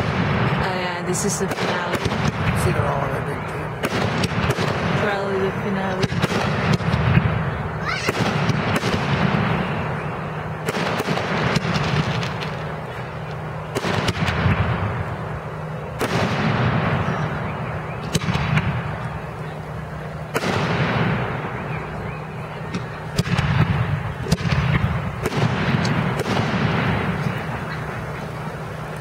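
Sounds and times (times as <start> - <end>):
fireworks bursting: 0.0 - 29.0
rolling rumble: 0.0 - 29.0.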